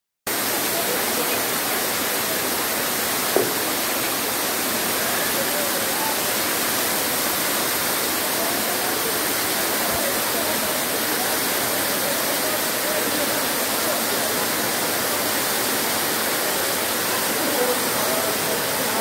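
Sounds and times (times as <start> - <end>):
waterfall rushing: 0.3 - 19.0.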